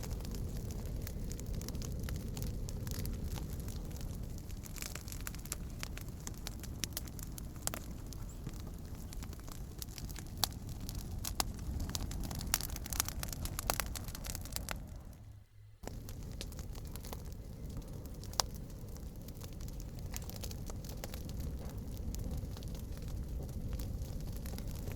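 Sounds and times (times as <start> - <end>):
bonfire crackling and popping: 0.0 - 24.9
low rumble of burning: 0.0 - 24.9.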